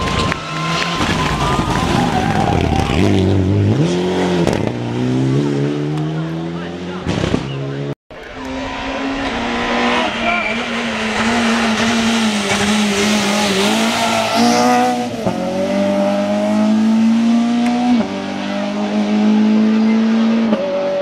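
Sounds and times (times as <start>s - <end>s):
rally car engine at high revs: 0.0s - 21.0s.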